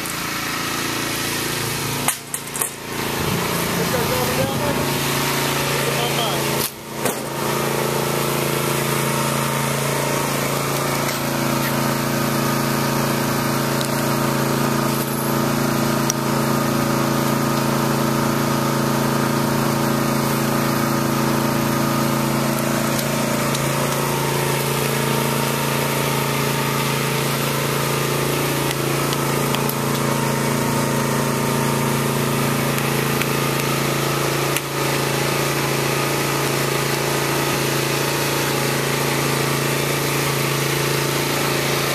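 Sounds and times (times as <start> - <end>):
small engine droning: 0.0 - 41.9.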